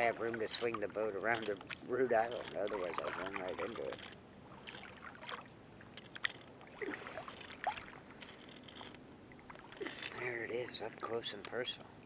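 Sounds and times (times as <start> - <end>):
paddle splashing in water: 0.0 - 10.2
water dripping off paddle: 0.0 - 10.2.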